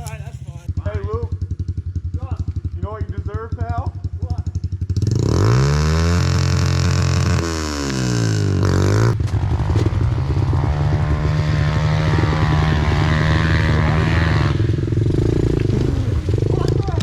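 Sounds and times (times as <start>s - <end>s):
pit bike engine: 0.0s - 17.0s.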